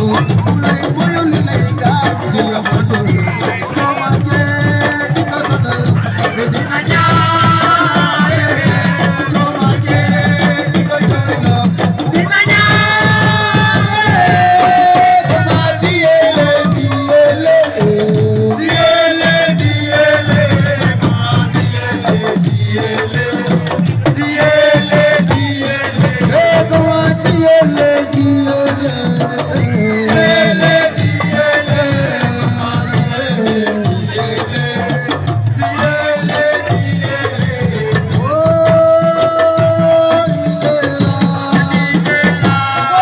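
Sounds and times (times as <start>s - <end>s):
fast drumming: 0.0s - 43.0s
person singing: 0.0s - 43.0s.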